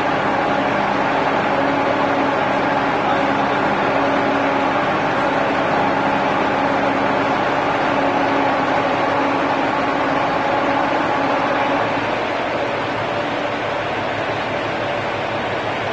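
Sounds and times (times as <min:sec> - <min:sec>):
crane engine and hydraulics droning: 0:00.0 - 0:15.9.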